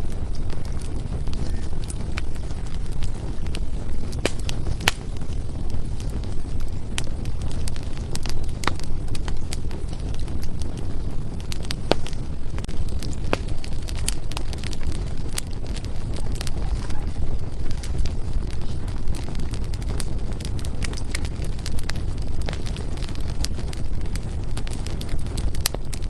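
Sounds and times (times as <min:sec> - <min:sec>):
firewood crackling and popping: 0:00.0 - 0:26.0
low rumble of flames: 0:00.0 - 0:26.0.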